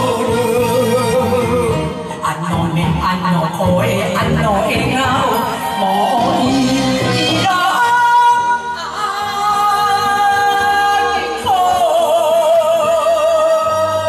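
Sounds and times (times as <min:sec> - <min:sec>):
backing track music: 0:00.0 - 0:14.0
person singing karaoke: 0:00.0 - 0:14.0.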